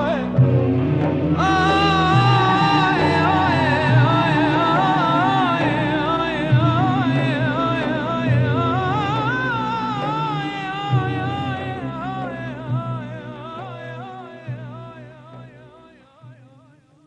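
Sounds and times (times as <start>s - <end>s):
low held bass notes: 0.0s - 15.6s
film soundtrack music: 0.0s - 16.1s.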